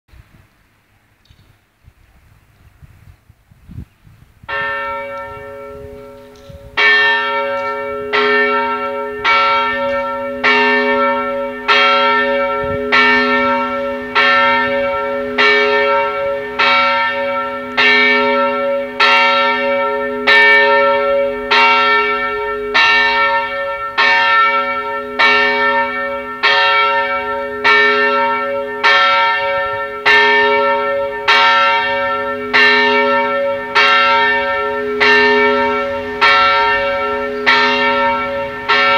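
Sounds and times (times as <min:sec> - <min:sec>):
church bell ringing: 0:04.5 - 0:38.9.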